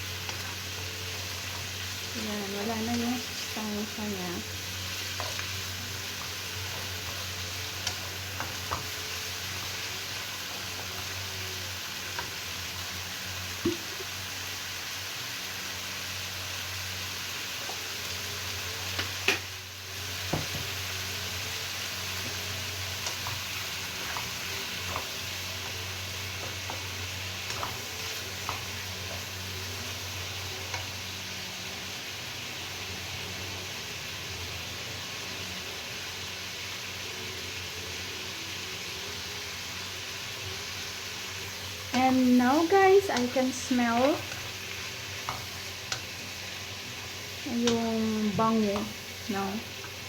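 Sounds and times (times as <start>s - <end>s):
vegetables sizzling in a pan: 0.0s - 50.0s.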